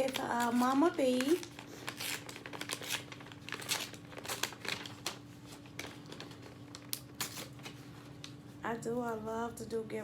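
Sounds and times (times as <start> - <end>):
paper crinkling: 0.0 - 8.4.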